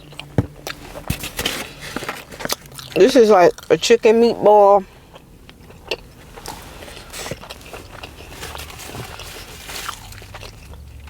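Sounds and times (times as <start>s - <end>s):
person chewing crunchy food: 0.0s - 3.8s, 4.8s - 11.0s.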